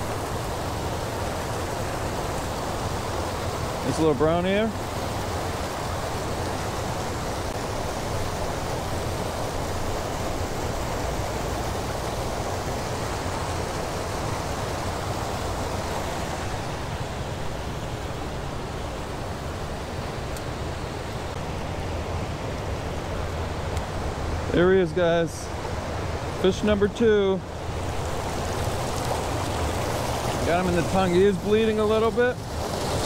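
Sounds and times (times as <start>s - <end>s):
whitewater rushing: 0.0s - 33.0s.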